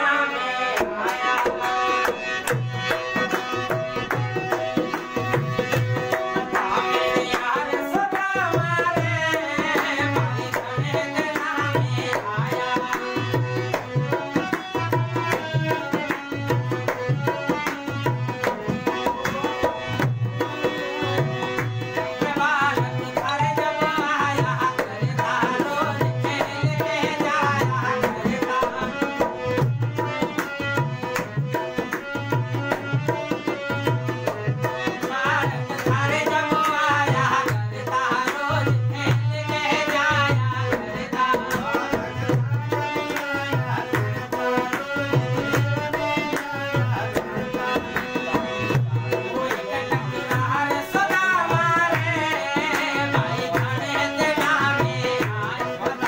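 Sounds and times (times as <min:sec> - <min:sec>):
harmonium melody: 0:00.0 - 0:56.0
hand drum steady beat: 0:01.3 - 0:56.0.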